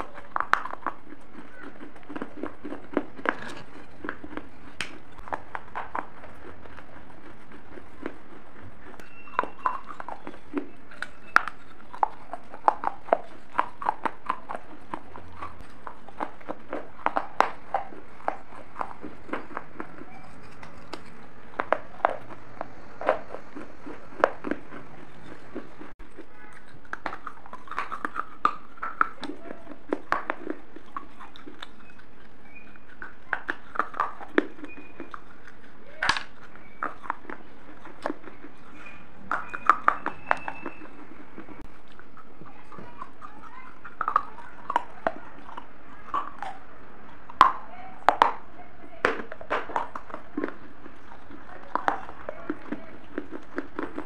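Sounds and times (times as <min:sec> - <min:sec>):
brittle pieces crunched by chewing: 0:00.0 - 0:54.0.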